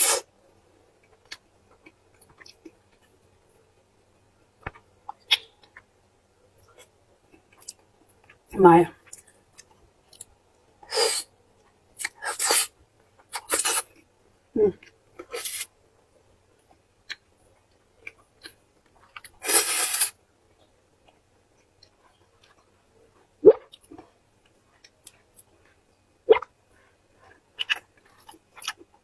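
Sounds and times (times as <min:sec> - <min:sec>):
close-up eating sounds: 0:01.0 - 0:29.0.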